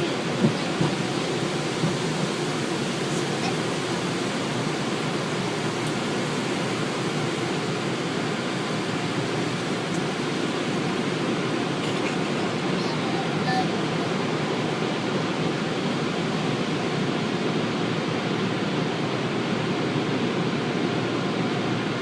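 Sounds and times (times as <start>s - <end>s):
car wash rushing noise: 0.0s - 22.0s.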